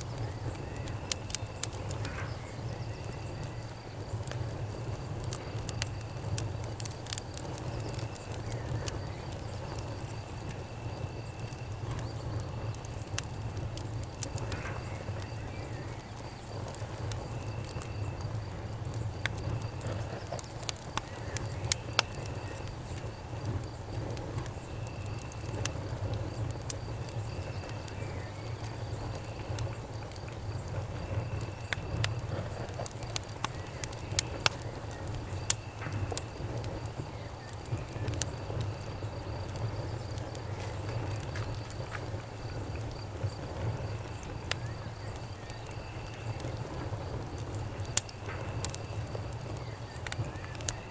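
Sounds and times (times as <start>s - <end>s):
campfire crackling: 0.0s - 50.9s
insects chirping: 0.0s - 50.9s.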